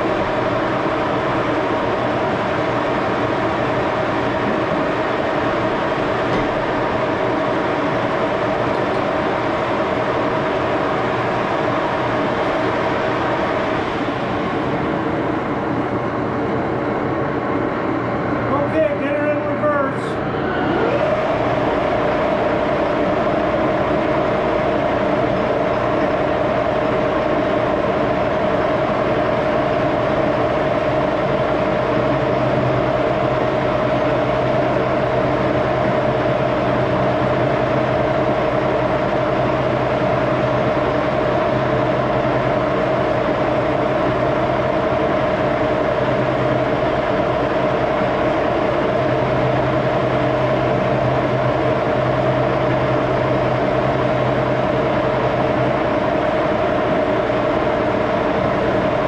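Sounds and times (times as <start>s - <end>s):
lathe running: 0.0s - 59.0s.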